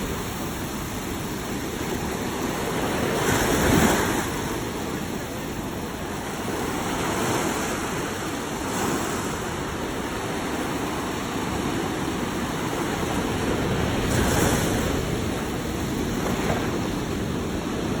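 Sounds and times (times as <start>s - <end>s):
waves breaking: 0.0s - 18.0s
wind buffeting microphone: 0.0s - 18.0s.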